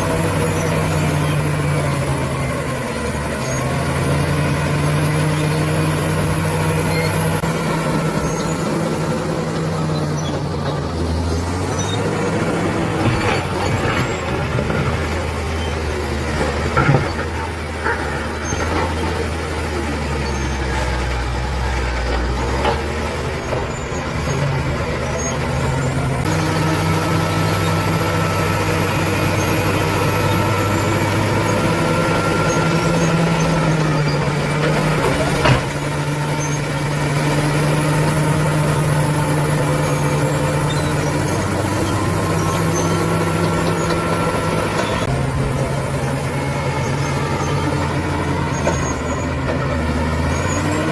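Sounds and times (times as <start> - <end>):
heavy machinery diesel engine: 0.0 - 50.9.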